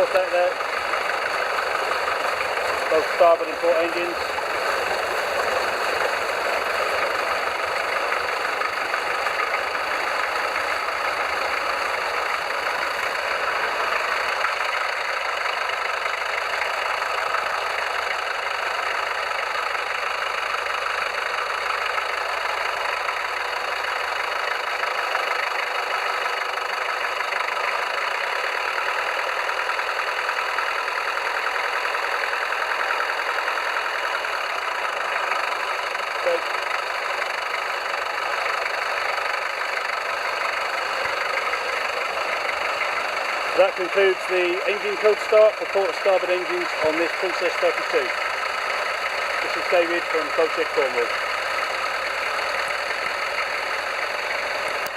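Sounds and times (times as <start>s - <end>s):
boat engines idling: 0.0s - 54.9s.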